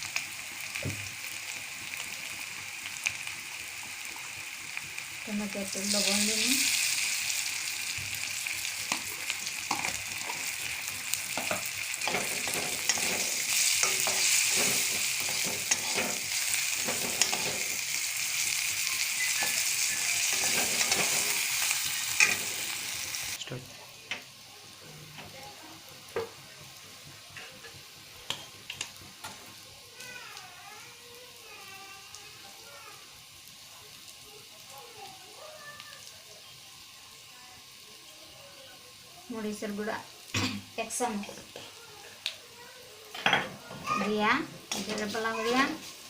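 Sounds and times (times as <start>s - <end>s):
tomatoes sizzling in oil: 0.0s - 46.0s.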